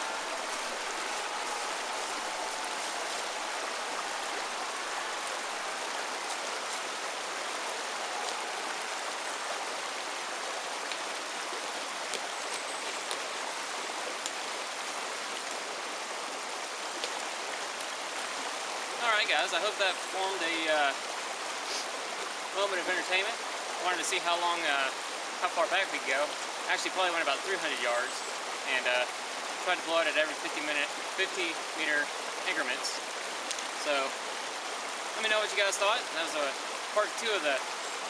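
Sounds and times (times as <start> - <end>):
water rushing over rocks: 0.0 - 38.0.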